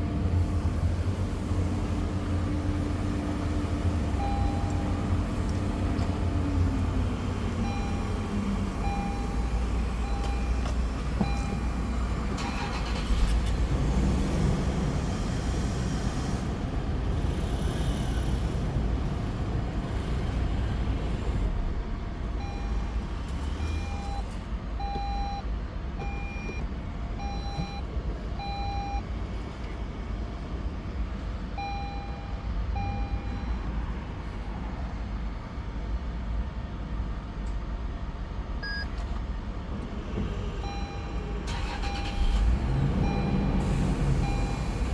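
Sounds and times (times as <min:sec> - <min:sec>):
car engine low rumble: 0:00.0 - 0:44.9.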